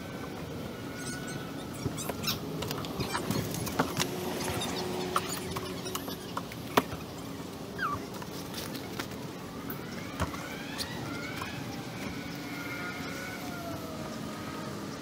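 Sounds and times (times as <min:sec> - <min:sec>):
faint rising whine: 0:00.0 - 0:15.0.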